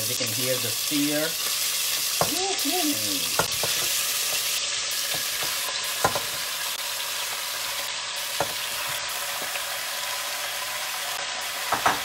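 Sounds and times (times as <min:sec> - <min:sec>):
meat sizzling in hot fat: 0:00.0 - 0:12.0.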